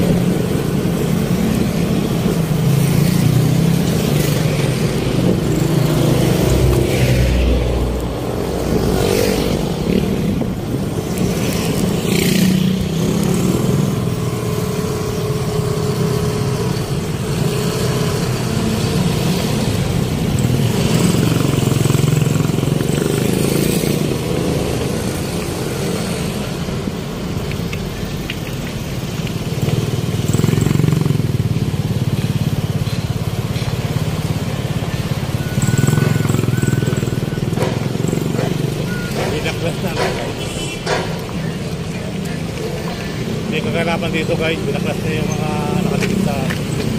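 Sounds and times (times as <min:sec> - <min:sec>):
motorcycles and cars passing: 0:00.0 - 0:46.9
vehicle engines running: 0:00.0 - 0:46.9.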